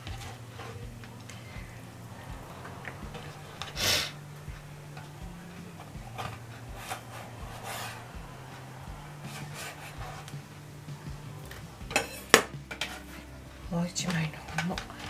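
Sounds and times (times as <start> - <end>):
kelp rubbing and scraping: 0.0 - 15.0.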